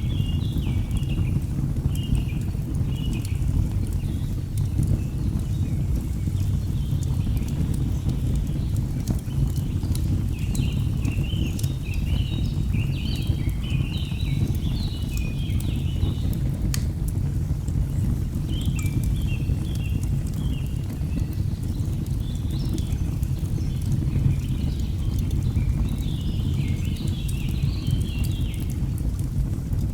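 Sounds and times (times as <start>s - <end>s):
burning logs crackling: 0.0s - 29.9s.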